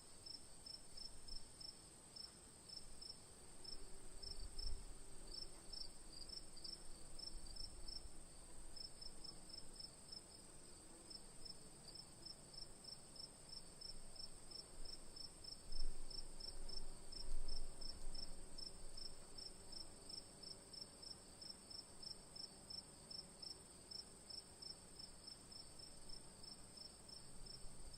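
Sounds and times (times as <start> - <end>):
crickets chirping: 0.2 - 27.9.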